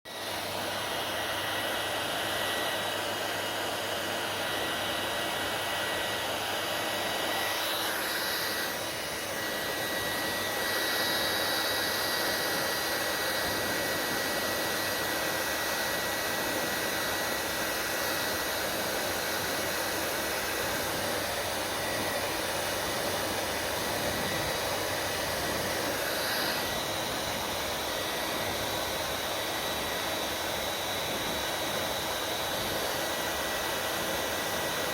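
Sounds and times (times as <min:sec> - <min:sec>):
hair dryer running: 0:00.1 - 0:34.9.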